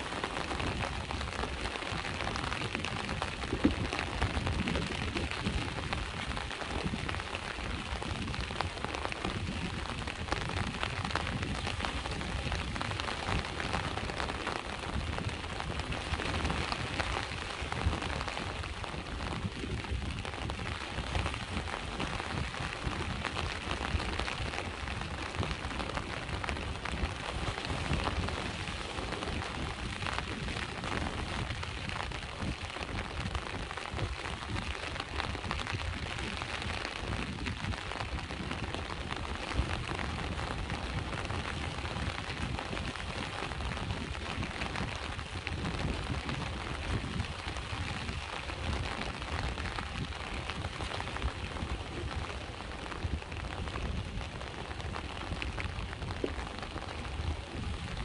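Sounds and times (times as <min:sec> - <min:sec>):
rain patter: 0:00.0 - 0:58.0
sea waves rumbling on shore: 0:00.0 - 0:58.0.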